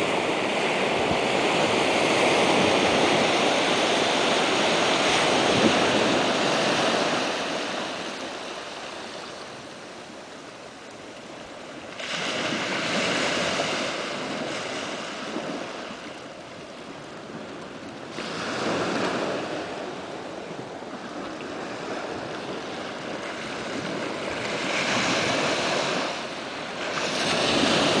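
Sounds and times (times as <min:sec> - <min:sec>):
surf on a beach: 0:00.0 - 0:28.0
wind: 0:00.0 - 0:28.0.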